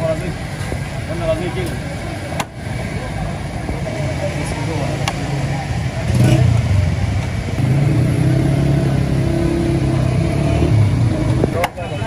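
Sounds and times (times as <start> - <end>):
motor engine rumbling: 0.0 - 12.0.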